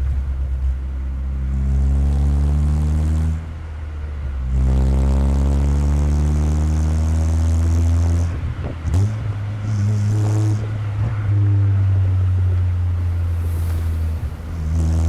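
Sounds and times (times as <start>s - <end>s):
car exhaust while driving: 0.0s - 15.0s.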